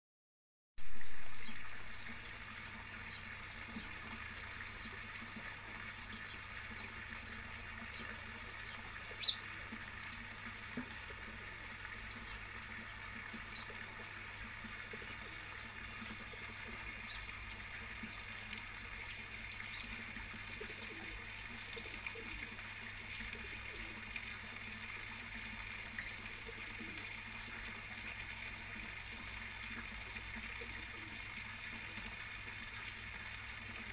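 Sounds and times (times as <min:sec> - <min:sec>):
running water hiss: 0:00.8 - 0:33.9.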